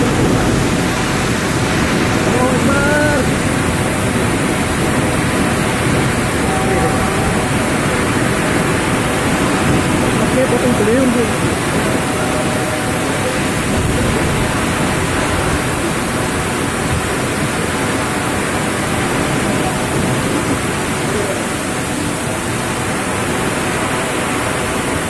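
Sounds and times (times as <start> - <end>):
heavy rain: 0.0 - 25.0
strong wind: 0.0 - 25.0.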